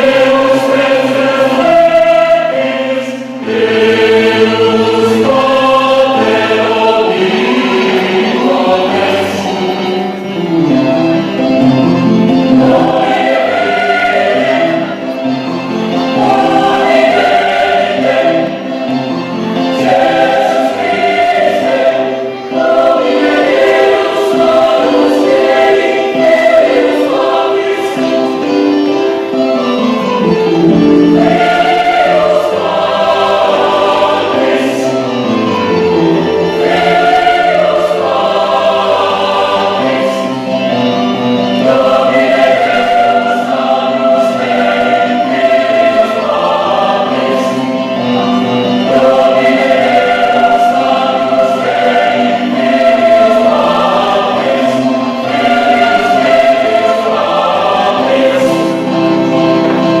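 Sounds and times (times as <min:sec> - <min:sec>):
choir singing in harmony: 0:00.0 - 1:00.0.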